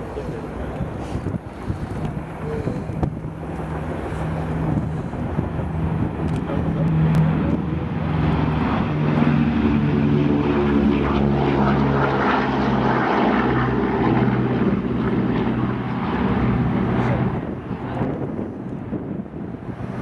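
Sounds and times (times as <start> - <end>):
propeller aircraft engines drone: 0.0 - 20.0.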